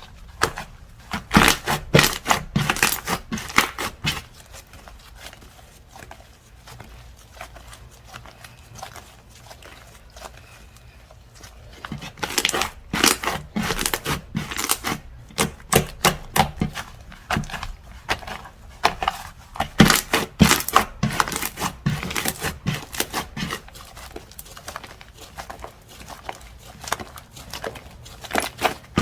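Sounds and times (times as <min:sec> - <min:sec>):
slime squished by hand: 0:00.0 - 0:29.0.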